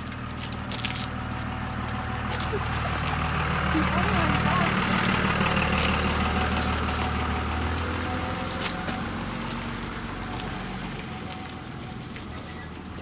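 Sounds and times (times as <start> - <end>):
large vehicle engine running: 0.0 - 13.0.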